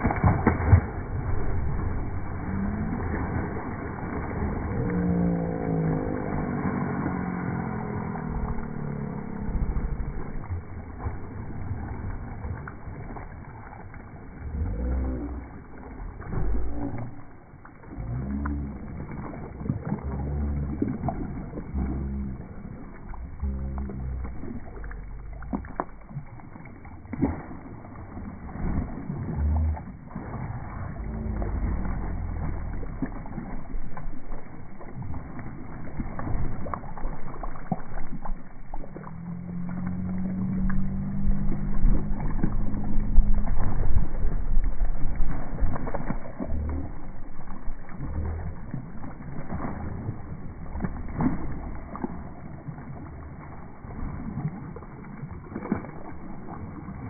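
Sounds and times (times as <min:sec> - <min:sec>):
dog splashing in water: 0:00.0 - 0:57.0
low droning tone: 0:00.0 - 0:57.0.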